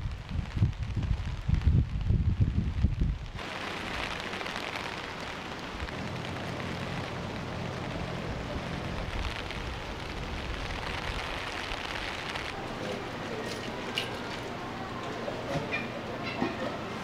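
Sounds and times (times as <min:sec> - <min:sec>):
rain on pavement and rooftops: 0:00.0 - 0:17.0.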